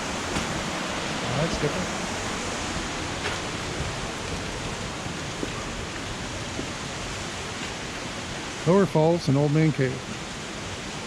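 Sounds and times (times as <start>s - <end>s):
flowing creek water: 0.0s - 11.0s.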